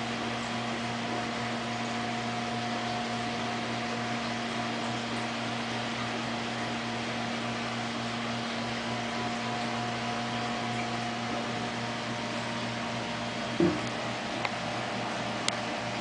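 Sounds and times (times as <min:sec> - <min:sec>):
aquarium pumps humming and hissing: 0:00.0 - 0:16.0.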